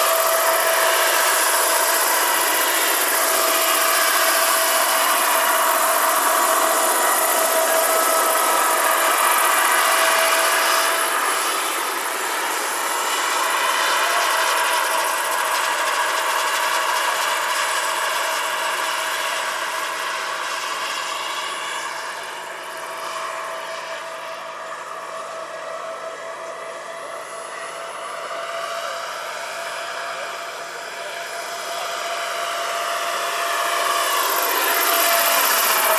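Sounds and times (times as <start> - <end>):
model helicopter whine: 0.0 - 35.9.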